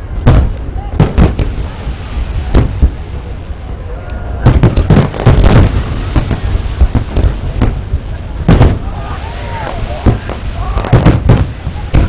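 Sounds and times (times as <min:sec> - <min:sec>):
fireworks bangs: 0:00.2 - 0:03.8, 0:04.4 - 0:12.0.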